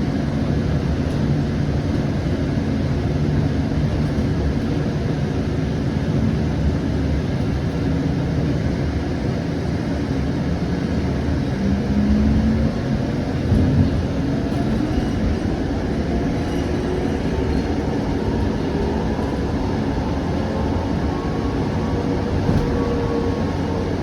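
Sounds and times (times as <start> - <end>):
wheels rumbling on track: 0.0 - 24.0.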